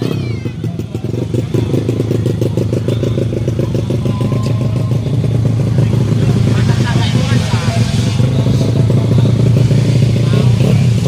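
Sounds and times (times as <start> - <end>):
motocross bike engine idling: 0.0 - 11.0.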